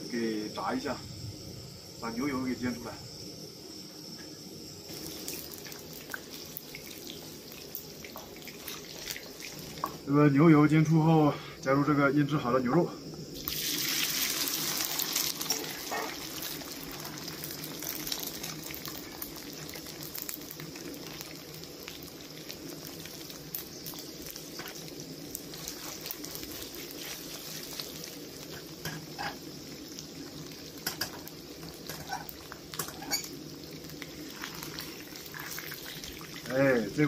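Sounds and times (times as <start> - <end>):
meat sizzling in a frying pan: 0.0 - 11.3, 12.0 - 37.0.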